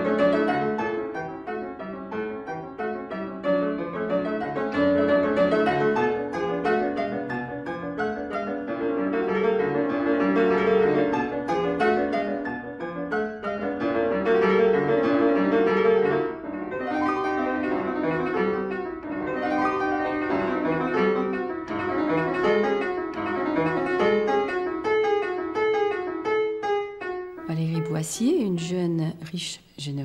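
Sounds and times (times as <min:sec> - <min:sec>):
solo piano playing classical music: 0:00.0 - 0:29.3.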